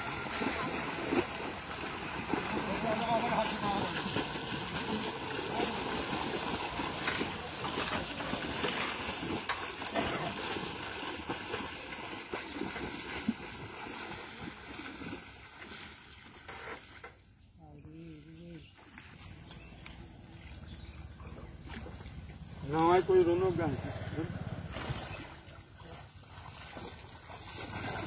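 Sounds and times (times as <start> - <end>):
water splashing from wading: 0.0 - 17.3, 17.9 - 28.0.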